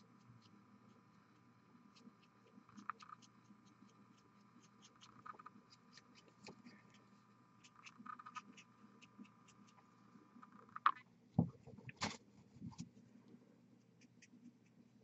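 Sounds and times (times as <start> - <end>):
paintbrush ticks and scratching: 0.0 - 11.0, 12.7 - 15.0
faint steady hum: 0.0 - 15.0.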